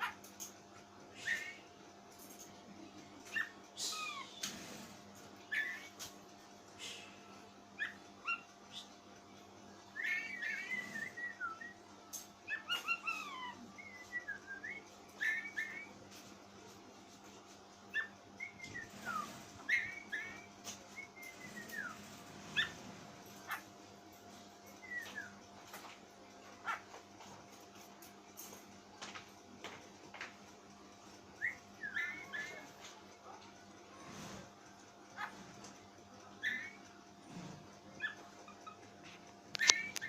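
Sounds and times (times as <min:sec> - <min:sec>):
bird whistling and clicking: 0:00.0 - 0:02.5, 0:03.2 - 0:07.0, 0:07.8 - 0:09.0, 0:09.7 - 0:28.8, 0:31.1 - 0:34.0, 0:35.1 - 0:40.0.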